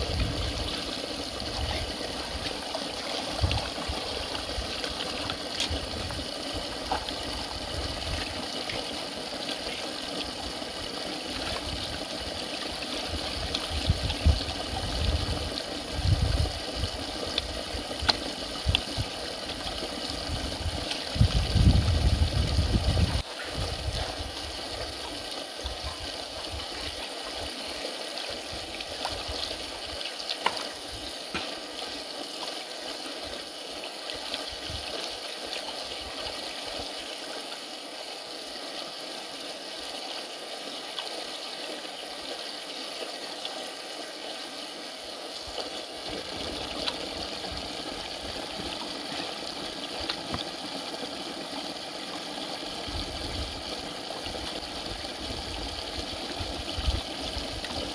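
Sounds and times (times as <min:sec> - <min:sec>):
running water: 0:00.0 - 0:57.9.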